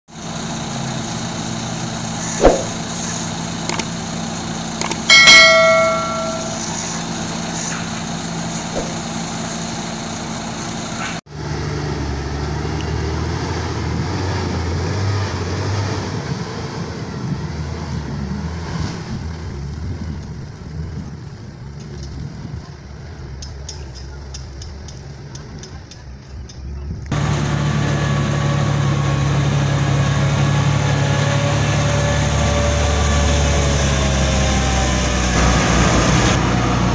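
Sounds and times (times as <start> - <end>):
diesel truck engine running: 0.1 - 36.9
truck driving with tyre noise: 0.1 - 36.9.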